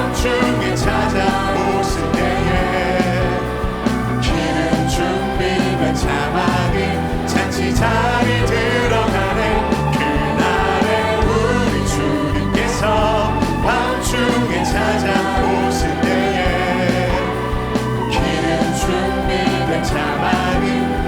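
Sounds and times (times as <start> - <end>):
bass: 0.0 - 21.0
drums: 0.0 - 21.0
sustained keyboard chords: 0.0 - 21.0
voices singing: 0.0 - 21.0.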